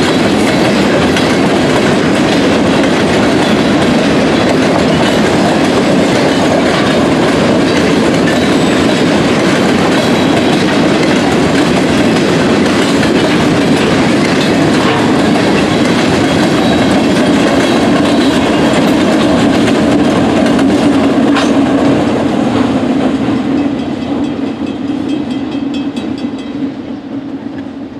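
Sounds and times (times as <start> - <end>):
train wheels clattering over rail joints: 0.0 - 26.9
diesel locomotives passing: 0.0 - 27.9.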